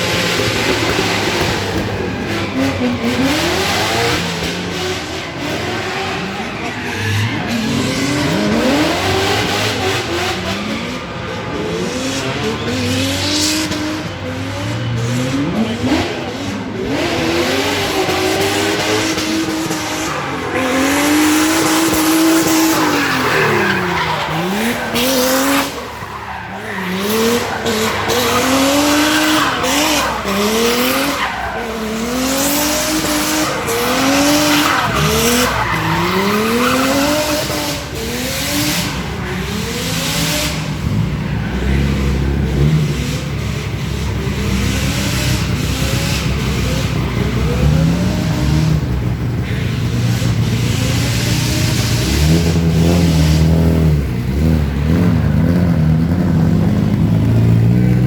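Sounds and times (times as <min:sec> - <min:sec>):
race car engine revving: 0:00.0 - 0:58.0
tyres skidding: 0:00.0 - 0:58.0.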